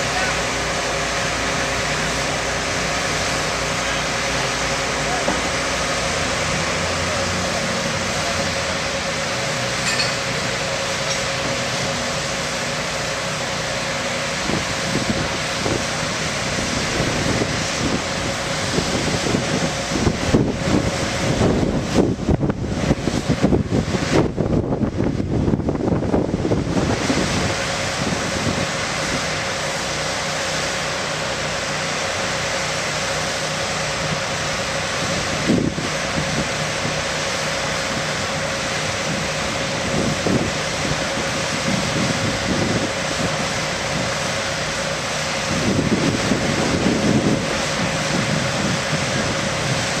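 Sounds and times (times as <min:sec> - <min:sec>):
construction machine engine drone: 0:00.0 - 0:50.0.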